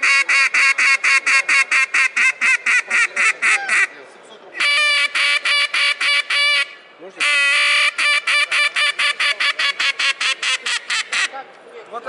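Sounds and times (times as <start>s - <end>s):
duck call quacking: 0.0s - 3.9s, 4.6s - 11.4s.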